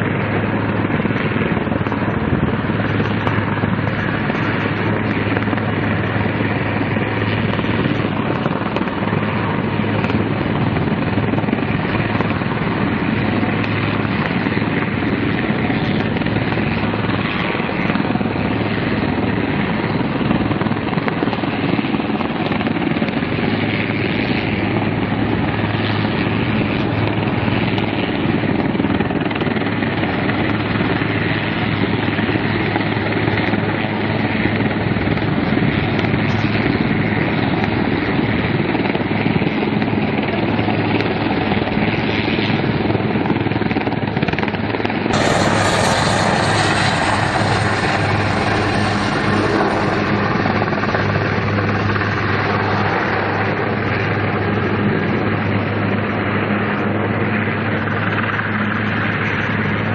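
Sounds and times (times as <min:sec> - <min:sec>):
helicopter hovering: 0:00.0 - 0:59.8.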